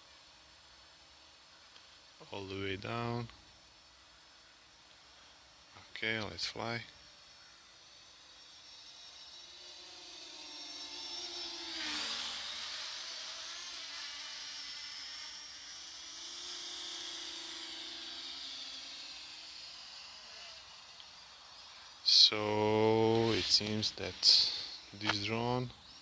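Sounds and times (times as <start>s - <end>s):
drone propellers whirring: 3.5s - 26.0s.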